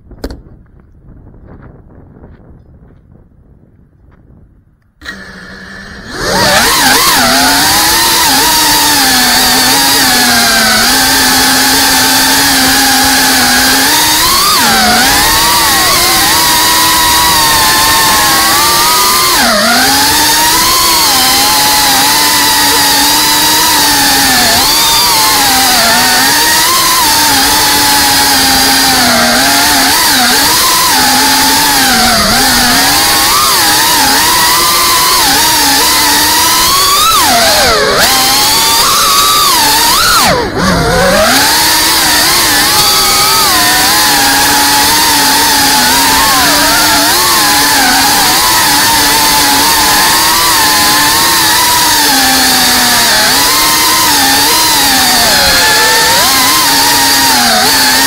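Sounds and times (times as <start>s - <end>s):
quadcopter motors whining: 5.0s - 58.0s.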